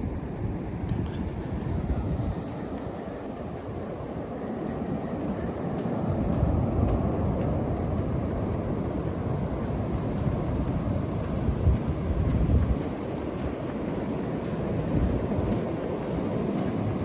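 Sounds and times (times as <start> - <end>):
ocean surf rumble: 0.0 - 17.0
wind buffeting microphone: 0.0 - 17.0.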